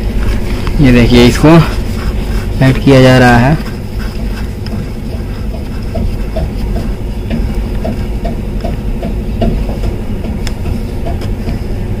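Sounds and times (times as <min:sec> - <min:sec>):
regular ticking: 0:00.7 - 0:11.6.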